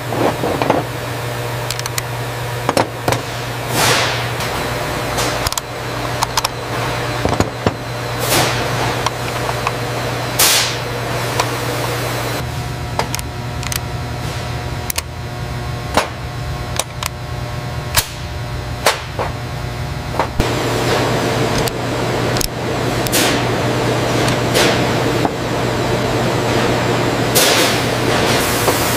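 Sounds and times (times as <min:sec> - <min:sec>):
machine hum: 0:00.0 - 0:28.9.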